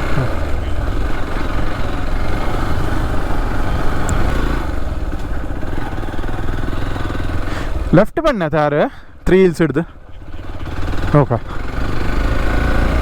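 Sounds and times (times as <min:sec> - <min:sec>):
motorcycle engine running: 0:00.0 - 0:08.2, 0:09.3 - 0:13.0.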